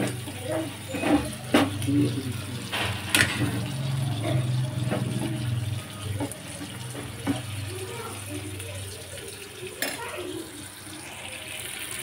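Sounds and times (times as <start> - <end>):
water running from tap: 0.0 - 12.0.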